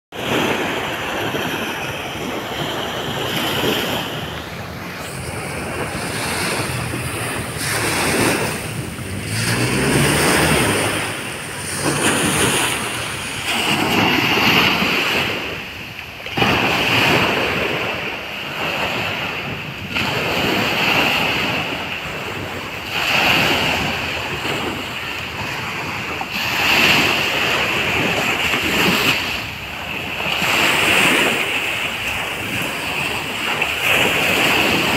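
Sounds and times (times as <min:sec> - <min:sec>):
waves breaking on beach: 0:00.1 - 0:34.9
wind buffeting microphone: 0:00.2 - 0:34.9.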